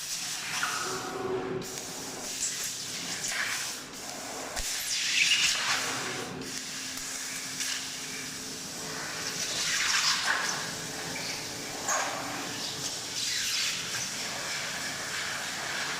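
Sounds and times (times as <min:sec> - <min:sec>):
laser cutter hissing: 0:00.0 - 0:15.9.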